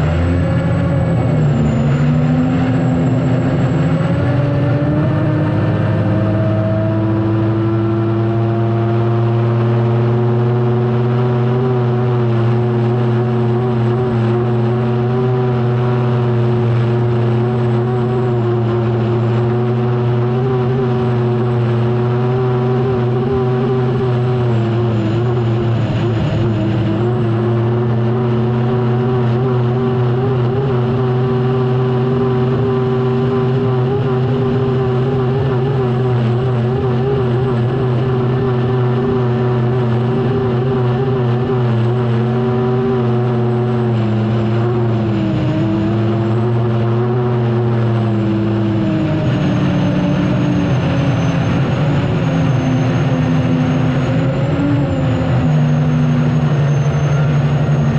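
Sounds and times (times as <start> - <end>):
turbine engine running: 0.0 - 57.9.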